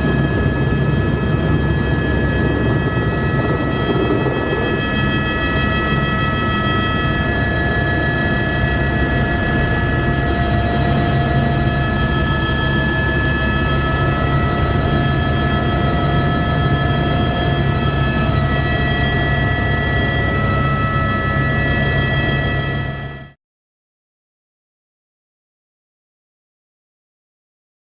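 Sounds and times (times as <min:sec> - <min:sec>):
helicopter rotor and engine drone: 0:00.0 - 0:23.4
high turbine whine: 0:00.0 - 0:23.4.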